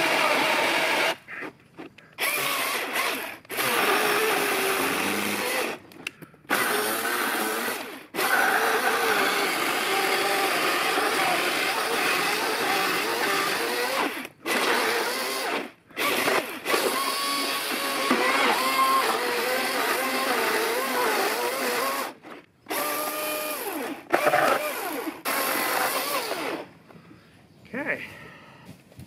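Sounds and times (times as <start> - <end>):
chainsaw cutting log: 0.0 - 26.7.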